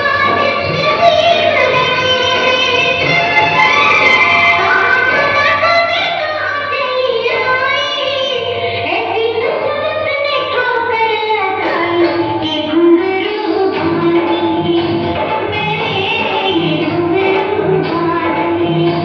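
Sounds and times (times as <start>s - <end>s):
woman singing over loudspeaker: 0.0s - 19.0s.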